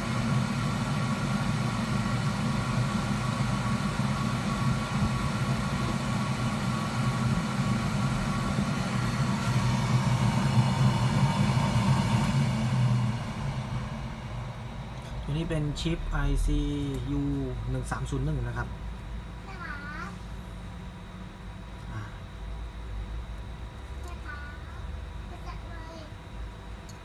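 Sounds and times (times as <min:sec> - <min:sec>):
low hum: 0:00.0 - 0:24.0
hot-air blower whirring: 0:00.0 - 0:24.3
faint whine: 0:00.0 - 0:27.0.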